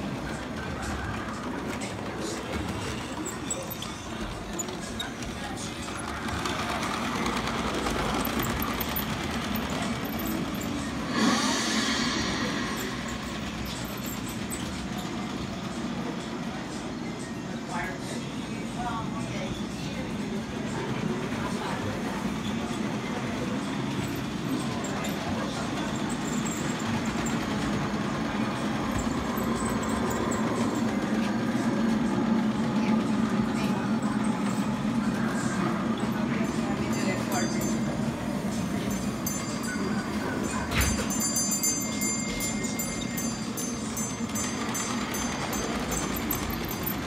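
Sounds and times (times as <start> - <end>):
model train rumbling on track: 0.0 - 47.0.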